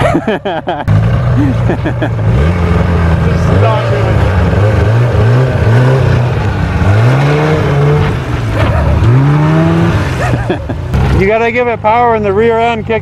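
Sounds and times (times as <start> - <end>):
snowmobile engine revving: 0.0 - 12.8.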